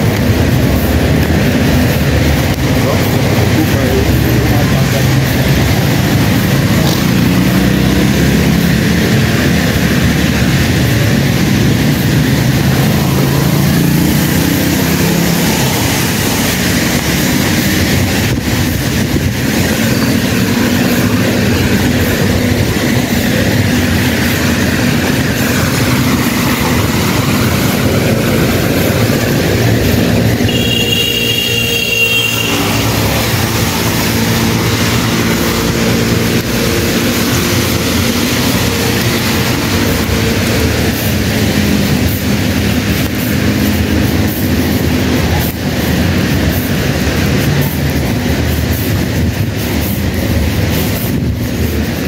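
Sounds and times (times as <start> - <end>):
heavy rain: 0.0 - 52.0
traffic on wet road: 0.0 - 52.0.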